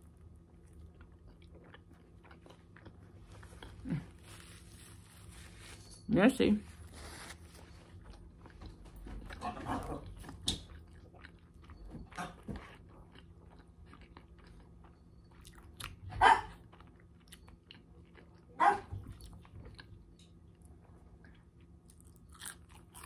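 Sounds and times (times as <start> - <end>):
person chewing: 0.2 - 5.8, 6.8 - 16.0, 16.6 - 18.6, 19.2 - 23.0.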